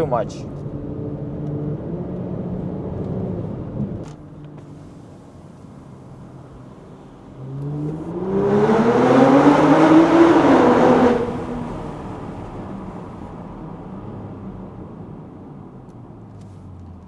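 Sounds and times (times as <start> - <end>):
loud exhaust rush: 0.0 - 16.8
car engine accelerating hard: 0.0 - 17.0.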